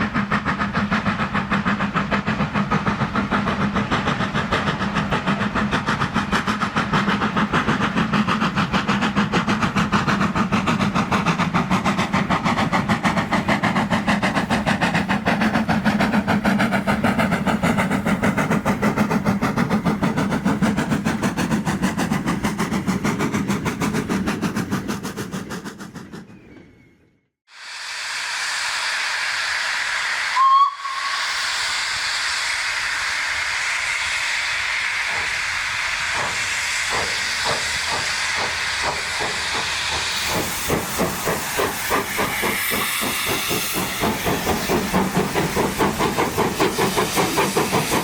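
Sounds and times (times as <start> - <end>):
steam locomotive exhaust beats: 0.0 - 48.0.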